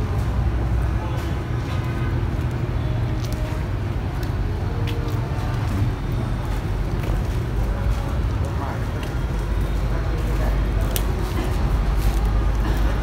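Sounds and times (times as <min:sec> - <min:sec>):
faint distant voices: 0:00.0 - 0:13.0
low outdoor rumble: 0:00.0 - 0:13.0.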